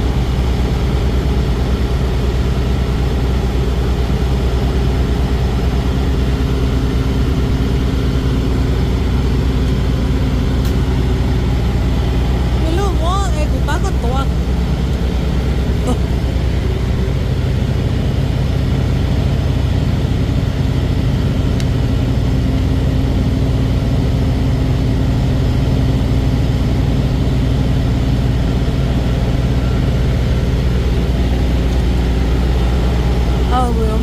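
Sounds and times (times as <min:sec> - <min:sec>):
truck engine and road drone: 0:00.0 - 0:34.0.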